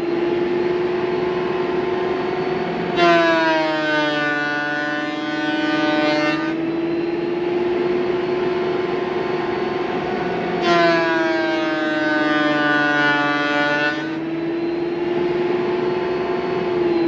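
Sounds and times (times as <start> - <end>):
planer motor hum: 0.0 - 17.0.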